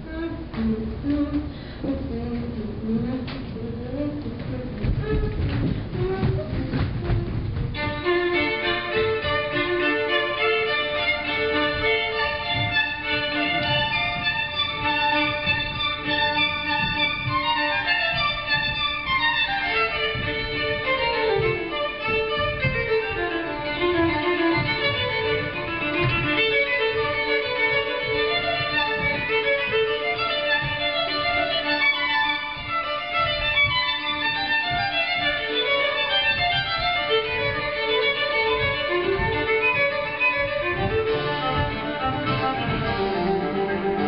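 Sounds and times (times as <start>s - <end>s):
musical accompaniment: 0.0s - 44.0s
violin playing quick runs: 0.0s - 44.0s.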